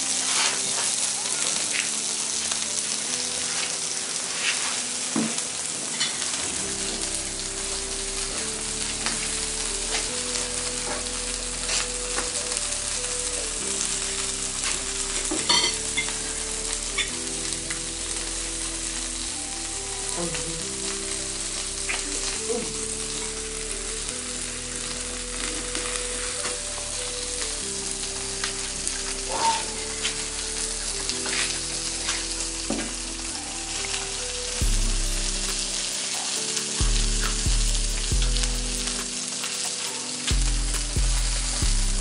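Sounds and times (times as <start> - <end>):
food sizzling in a frying pan: 0.0 - 42.0
soft background music: 0.0 - 42.0.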